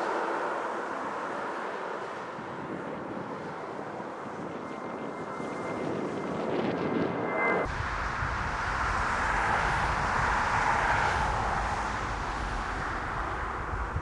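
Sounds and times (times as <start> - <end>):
jet airliner passing: 0.0 - 14.0
wind on microphone: 2.0 - 14.0.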